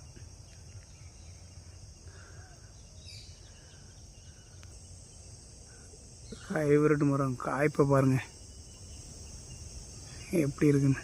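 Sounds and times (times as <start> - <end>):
faint bird chirps: 0.0 - 11.0
high-pitched insect chorus: 0.0 - 11.0.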